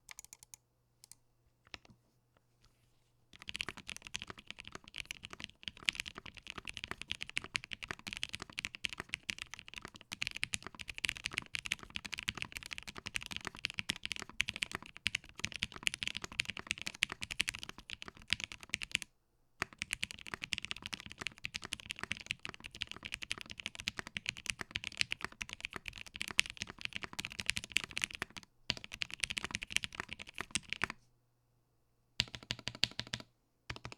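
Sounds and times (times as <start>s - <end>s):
mechanical keyboard typing: 0.0s - 1.2s, 3.4s - 19.0s, 19.6s - 30.9s, 32.2s - 33.9s.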